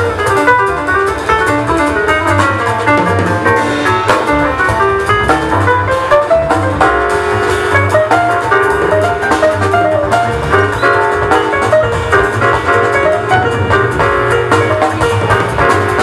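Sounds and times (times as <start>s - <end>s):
drum kit: 0.0s - 16.0s
walking double bass: 0.0s - 16.0s.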